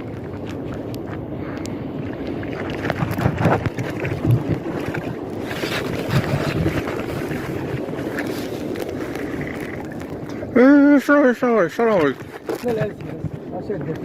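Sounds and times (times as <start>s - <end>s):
wind on microphone: 0.0s - 14.0s
sea water lapping: 1.3s - 13.6s.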